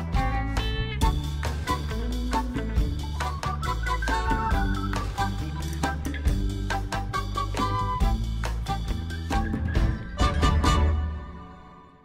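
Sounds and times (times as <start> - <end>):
background music with a beat: 0.0 - 11.6.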